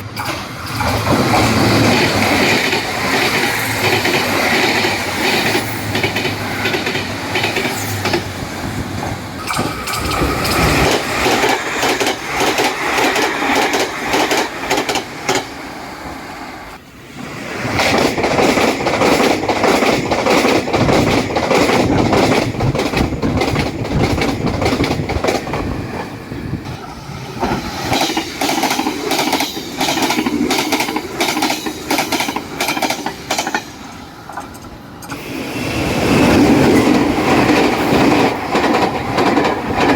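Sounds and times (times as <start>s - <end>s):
train wheels clattering over rail joints: 0.0s - 15.5s, 17.7s - 39.9s.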